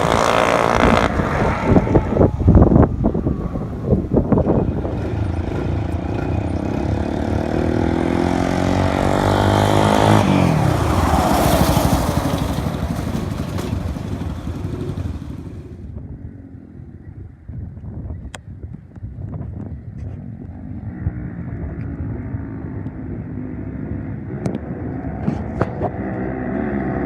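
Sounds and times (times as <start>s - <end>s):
off-road vehicle engine passing: 0.0s - 15.9s, 20.6s - 27.0s.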